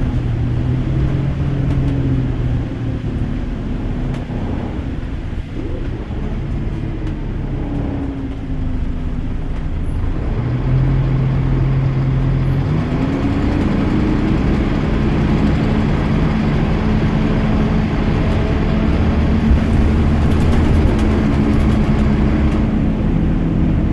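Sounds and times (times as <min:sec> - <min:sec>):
bus engine running: 0:00.0 - 0:23.9.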